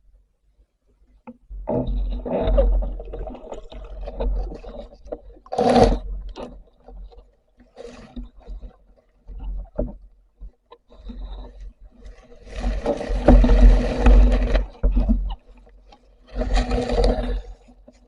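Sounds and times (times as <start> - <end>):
water sloshing and splashing: 1.7 - 18.0.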